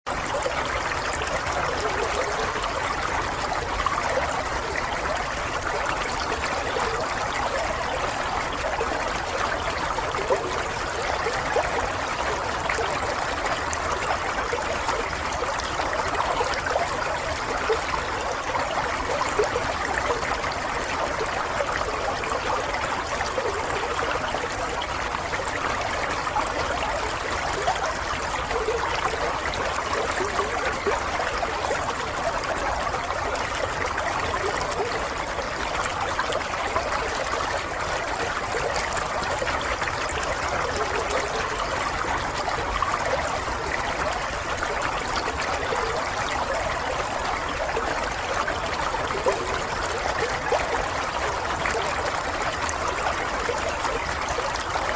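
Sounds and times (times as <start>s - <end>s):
water trickling and bubbling: 0.1s - 54.9s.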